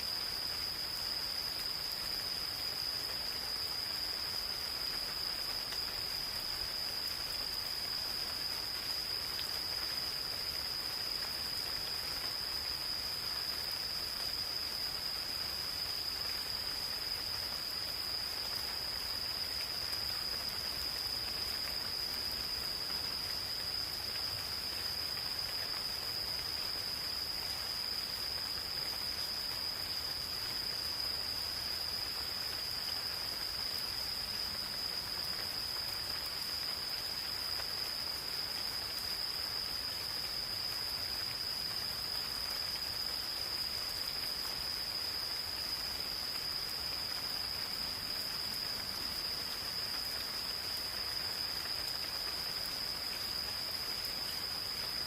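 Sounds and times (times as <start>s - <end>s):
gentle rain in forest: 0.0s - 55.0s
high-pitched insect trill: 0.0s - 55.0s.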